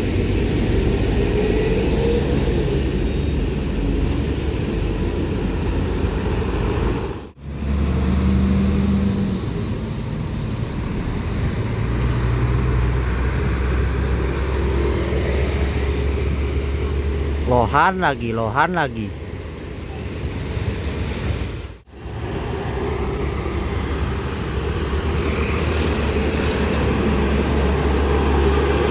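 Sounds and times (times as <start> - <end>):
diesel trucks driving past: 0.0 - 28.9.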